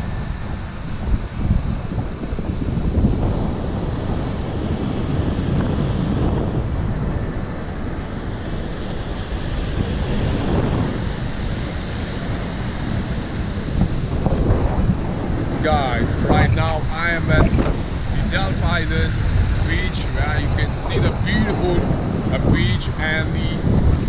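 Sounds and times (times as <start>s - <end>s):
sea surf washing on shore: 0.0s - 24.0s
wind buffeting microphone: 0.0s - 24.0s.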